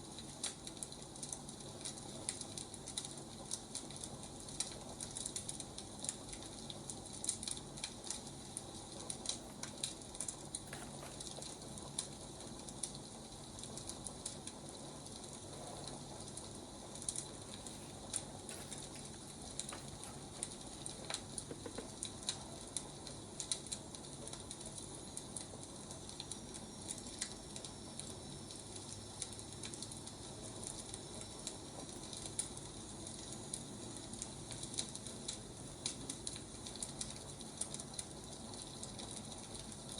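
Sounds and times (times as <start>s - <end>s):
firewood crackling and popping: 0.0s - 39.9s
fire hissing: 0.1s - 39.9s.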